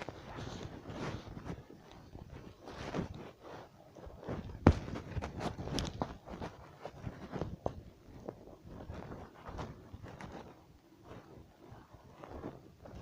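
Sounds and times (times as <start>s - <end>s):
footsteps crunching on rough ground: 0.0s - 11.4s
clothing and gear rustle: 0.0s - 13.0s.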